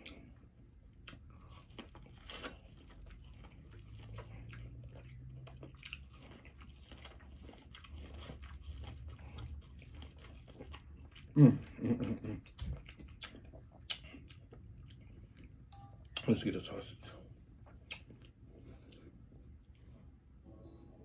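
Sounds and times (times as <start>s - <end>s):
chewing corn on the cob: 0.0s - 19.9s.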